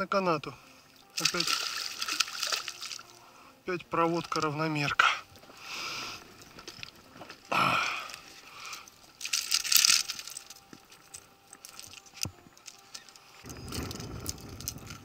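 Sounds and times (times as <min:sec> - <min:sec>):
fish thrashing: 0:01.0 - 0:03.4, 0:05.2 - 0:15.0.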